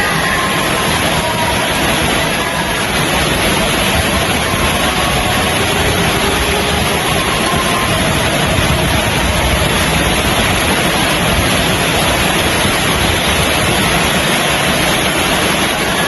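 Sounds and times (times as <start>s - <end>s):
low rumble: 0.0s - 15.2s
heavy rain hissing: 0.0s - 16.0s.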